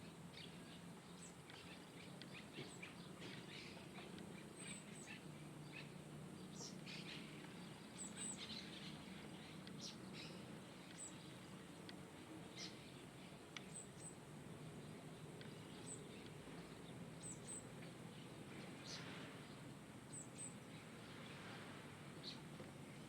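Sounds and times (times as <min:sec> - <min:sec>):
birds chirping: 0:00.3 - 0:21.4.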